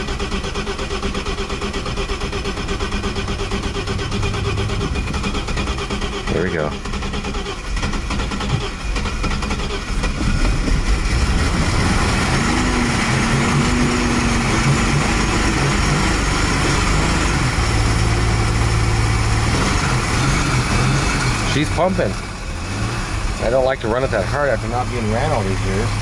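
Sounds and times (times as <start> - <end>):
car engine cranking and running: 0.0 - 26.0.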